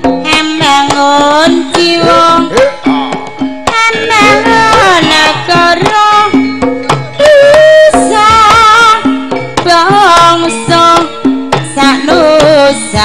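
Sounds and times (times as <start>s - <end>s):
drum strokes: 0.0s - 13.0s
tuned metal percussion: 0.0s - 13.0s
person singing ornamented vocals: 0.3s - 3.1s, 3.7s - 6.4s, 7.2s - 13.0s.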